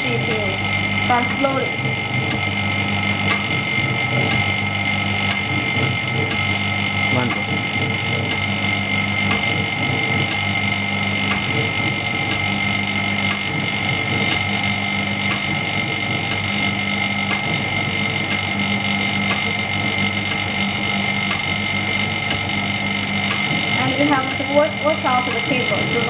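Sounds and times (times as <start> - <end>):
machine hum with high whine: 0.0 - 26.0.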